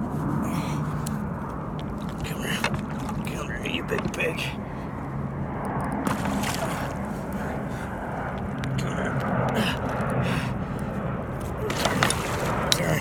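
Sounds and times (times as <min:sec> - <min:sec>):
steady low rumble: 0:00.0 - 0:13.0
water sloshing and splashing: 0:00.0 - 0:13.0.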